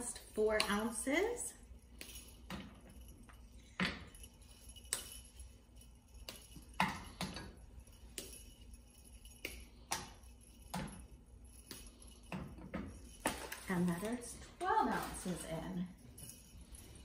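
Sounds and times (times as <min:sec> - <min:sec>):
small jingle bells: 0:00.0 - 0:17.0.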